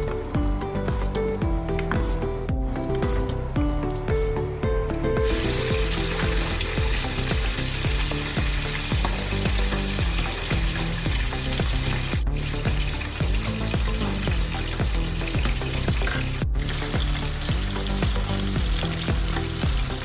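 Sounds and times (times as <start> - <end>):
background music with steady beat: 0.0 - 20.0.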